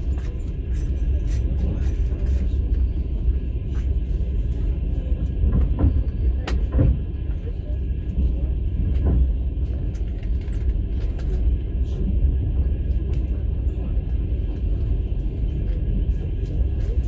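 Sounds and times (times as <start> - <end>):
train rumbling inside carriage: 0.0 - 17.0.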